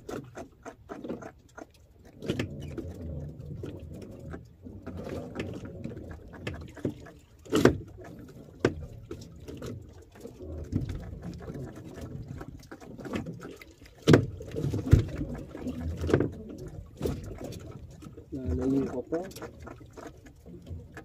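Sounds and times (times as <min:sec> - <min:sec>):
gear knocking against boat: 0:02.2 - 0:09.9, 0:10.6 - 0:21.0.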